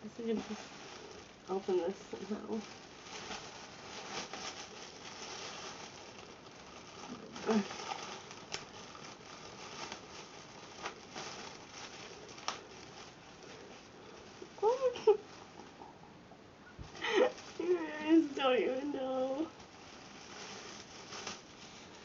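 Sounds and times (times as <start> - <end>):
packaging rustling and crinkling: 0.0 - 15.9, 16.8 - 22.0.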